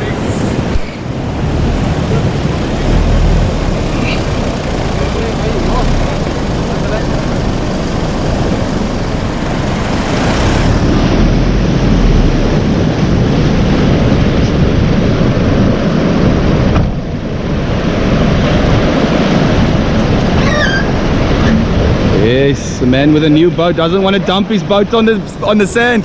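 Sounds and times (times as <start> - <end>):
waves breaking: 0.0 - 26.0
wind buffeting microphone: 0.0 - 26.0.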